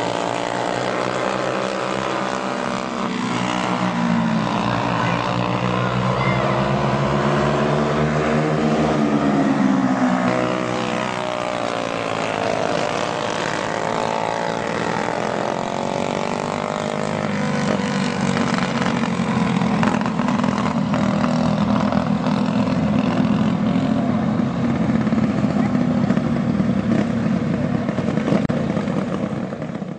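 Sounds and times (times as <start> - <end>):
go-kart engines racing: 0.0 - 29.9.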